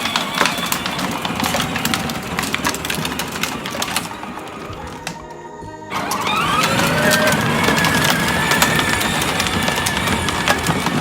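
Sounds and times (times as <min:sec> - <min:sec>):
toy electric motor whine: 0:00.0 - 0:05.0, 0:05.9 - 0:11.0
rattling and clicking: 0:00.0 - 0:11.0.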